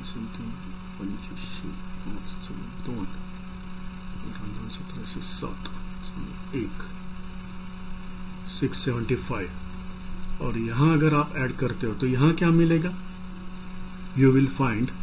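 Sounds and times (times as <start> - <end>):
electrical mains hum: 0.0 - 15.0
soft hissy sounds: 0.0 - 15.0.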